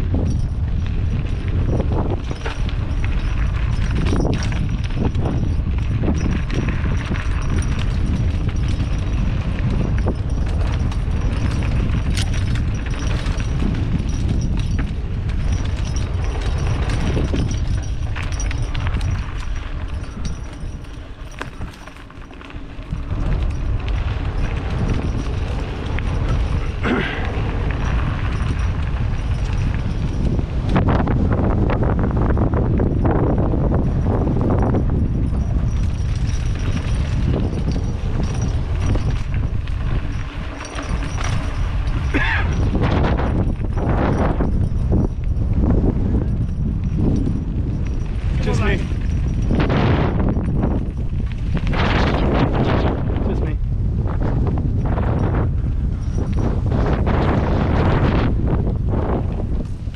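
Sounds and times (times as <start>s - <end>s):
bike rattling and knocking: 0.0s - 59.9s
wind buffeting microphone: 0.0s - 59.9s.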